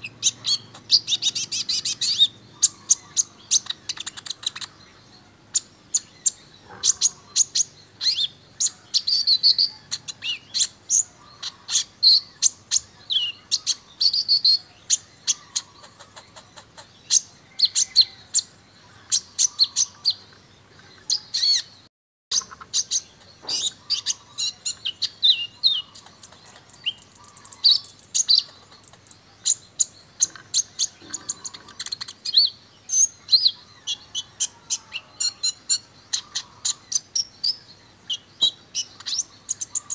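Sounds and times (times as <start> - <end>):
sunbird singing high chirps and trills: 0.0 - 39.9.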